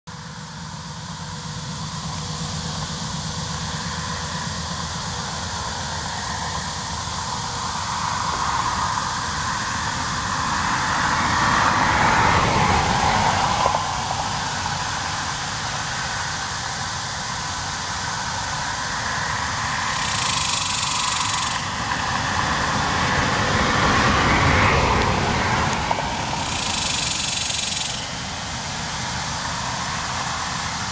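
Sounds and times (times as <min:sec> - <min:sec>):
cicadas buzzing: 0:00.1 - 0:30.9
highway traffic passing: 0:00.1 - 0:30.9.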